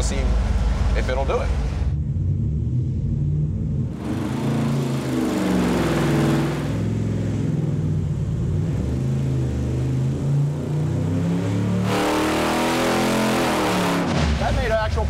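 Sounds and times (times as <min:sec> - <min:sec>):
engine revving under load: 0:00.2 - 0:14.8.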